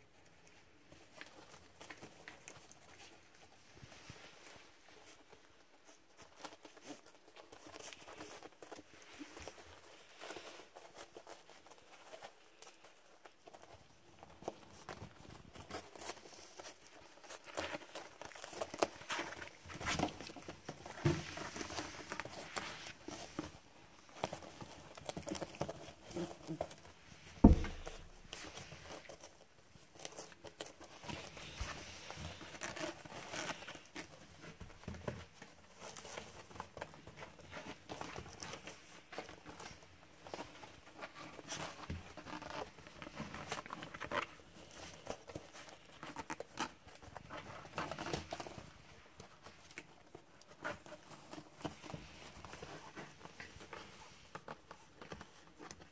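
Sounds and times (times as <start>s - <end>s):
puppies scrabbling on bedding: 0.2s - 55.9s.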